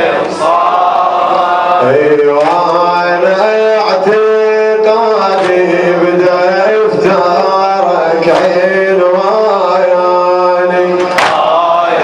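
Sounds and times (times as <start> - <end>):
man singing a lament: 1.4 - 12.0.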